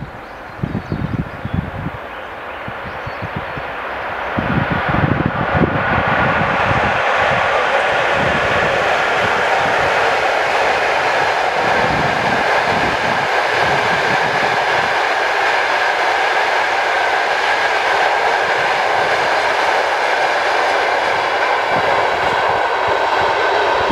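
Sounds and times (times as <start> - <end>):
train wheels rushing on rails: 0.0 - 23.9.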